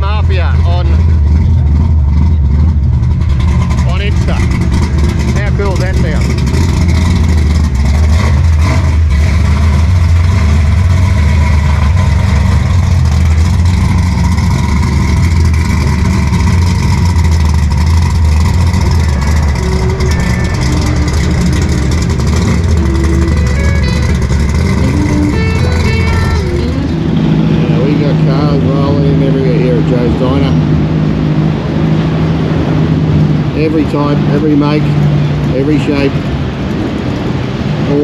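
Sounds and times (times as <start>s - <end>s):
car engine idling loudly: 0.0s - 38.0s.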